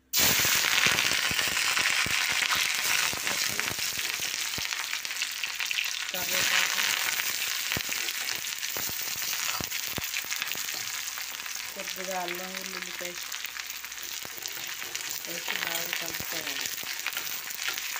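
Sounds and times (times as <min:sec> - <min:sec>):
hot oil sizzling and popping: 0:00.0 - 0:17.9
vegetables sizzling in oil: 0:00.0 - 0:17.9.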